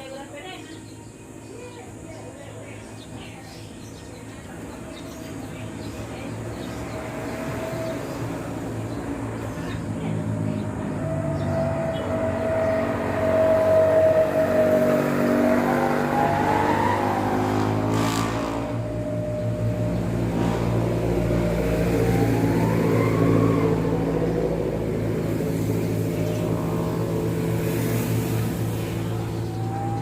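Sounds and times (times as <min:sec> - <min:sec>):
engine running and revving: 0:05.1 - 0:30.0.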